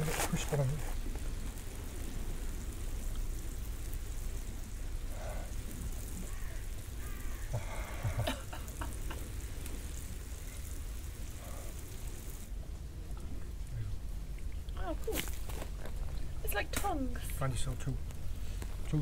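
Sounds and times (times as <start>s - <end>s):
wood campfire crackling: 0.0s - 19.0s.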